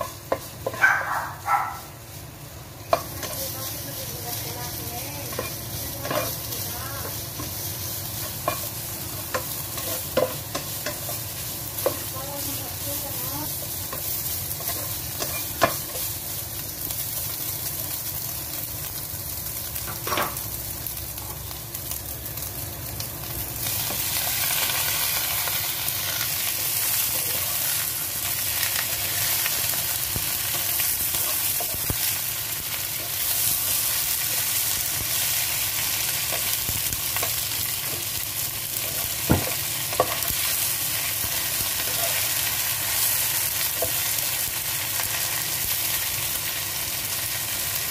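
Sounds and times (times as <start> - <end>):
oil sizzling in a pan: 0.0 - 47.9.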